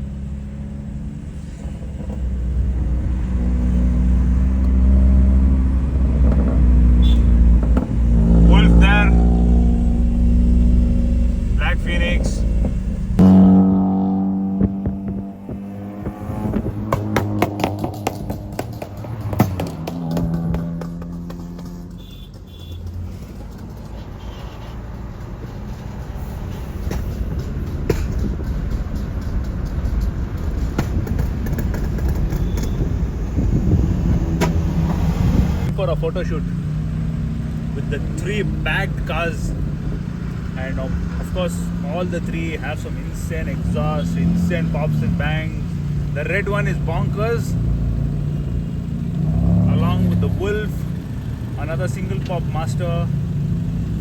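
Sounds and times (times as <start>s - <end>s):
car engine droning: 0.0s - 54.0s
exhaust pops: 1.2s - 54.0s.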